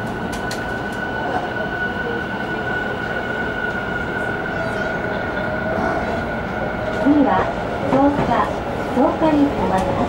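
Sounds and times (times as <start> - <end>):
train running noise: 0.0 - 10.0.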